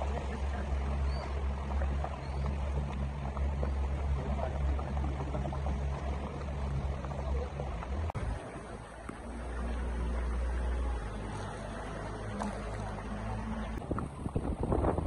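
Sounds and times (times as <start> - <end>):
motorboat engine droning: 0.0 - 15.0
water rushing along hull: 0.0 - 15.0.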